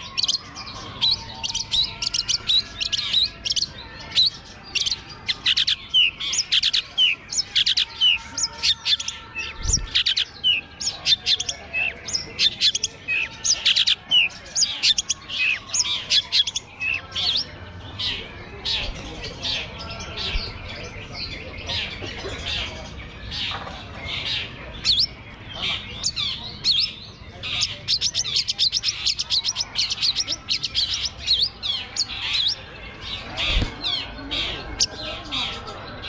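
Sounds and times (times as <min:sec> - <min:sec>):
birds chirping and whistling: 0:00.0 - 0:36.0.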